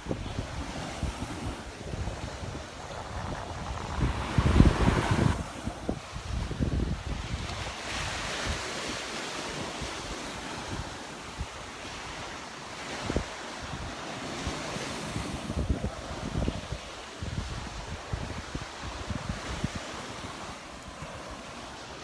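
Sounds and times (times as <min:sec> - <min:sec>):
wind buffeting microphone: 0:00.0 - 0:21.5
waves washing onto beach: 0:00.0 - 0:22.0.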